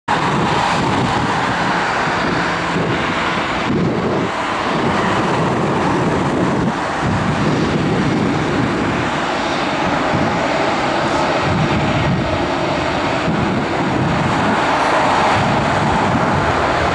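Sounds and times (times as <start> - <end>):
jet engines taxiing: 0.1 - 16.9.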